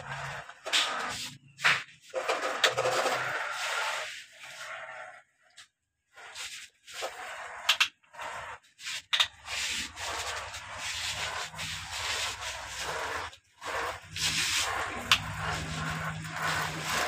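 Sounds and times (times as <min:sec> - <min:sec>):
toy excavator scraping through soil: 0:00.0 - 0:05.5, 0:06.1 - 0:17.0.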